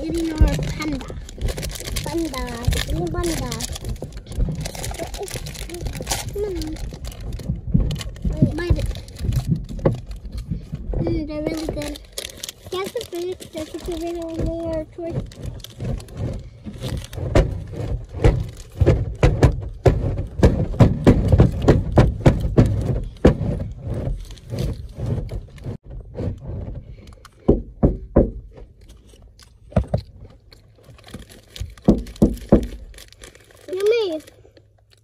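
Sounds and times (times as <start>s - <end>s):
microphone handling knocks and scrapes: 0.0s - 33.2s.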